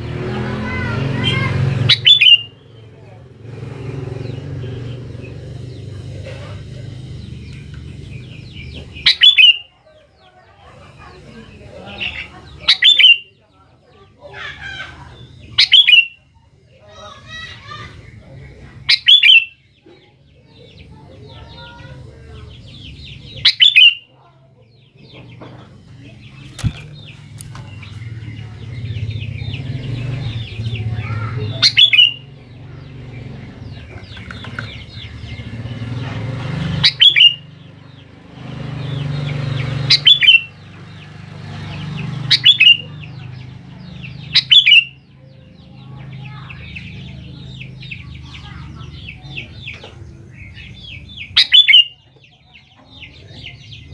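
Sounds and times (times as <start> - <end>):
bird chattering: 0.0 - 53.9
bulbul sharp calls: 0.0 - 53.9.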